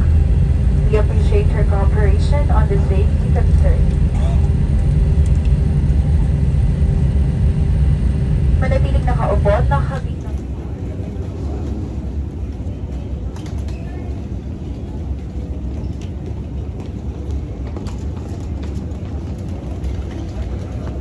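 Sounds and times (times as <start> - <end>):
low rumble of terminal hall: 0.0 - 21.0.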